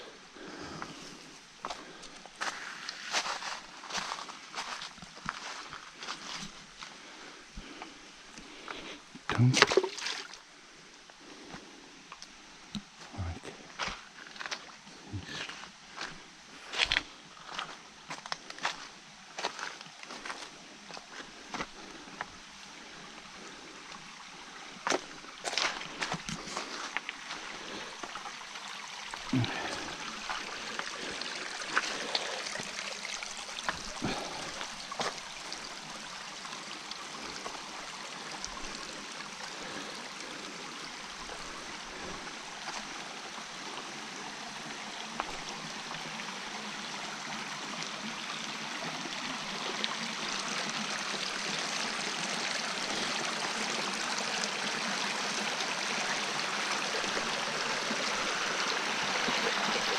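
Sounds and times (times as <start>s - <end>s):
stream running: 0.0s - 59.9s.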